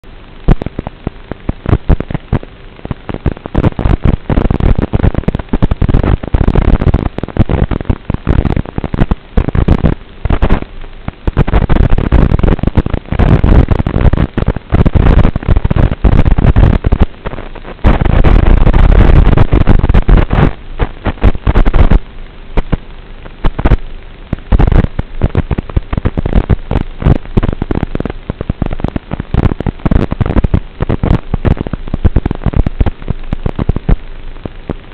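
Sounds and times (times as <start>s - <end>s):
wind crackling on microphone: 0.0s - 34.9s.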